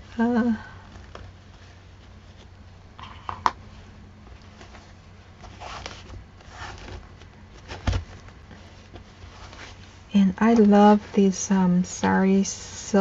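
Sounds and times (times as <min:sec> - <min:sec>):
paper rustling: 0:01.0 - 0:12.2.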